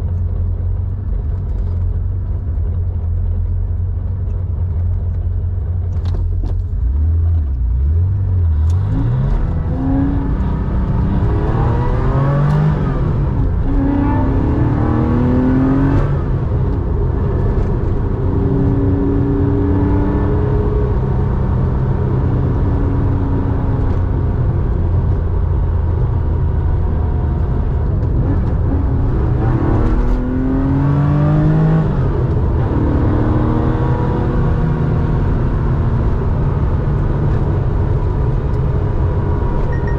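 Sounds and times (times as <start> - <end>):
car engine revving: 4.1 - 39.9.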